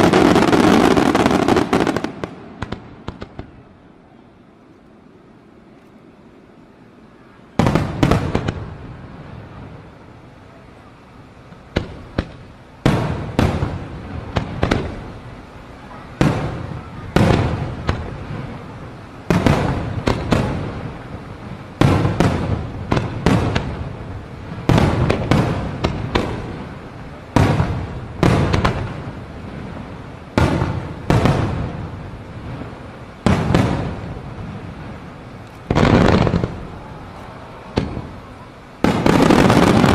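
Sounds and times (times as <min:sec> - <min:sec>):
fireworks bangs: 0:00.0 - 0:04.3, 0:07.0 - 0:39.9.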